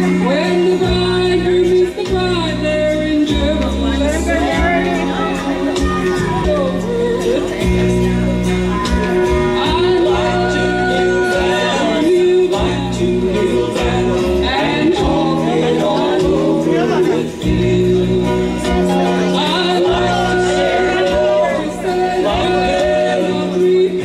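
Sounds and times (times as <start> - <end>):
instrumental backing with bass: 0.0 - 24.0
person singing a song: 0.0 - 24.0.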